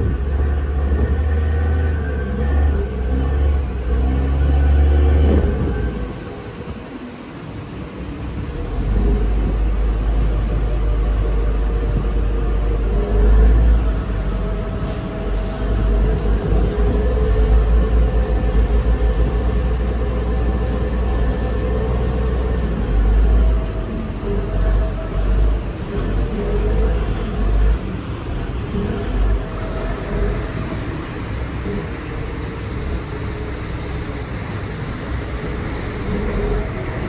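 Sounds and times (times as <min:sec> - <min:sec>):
ferry engines droning: 0:00.0 - 0:37.0
wind buffeting microphone: 0:00.0 - 0:37.0.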